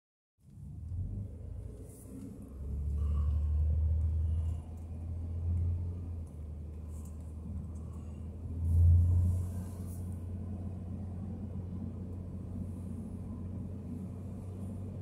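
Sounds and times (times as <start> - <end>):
car driving rumble: 0.4 - 15.0.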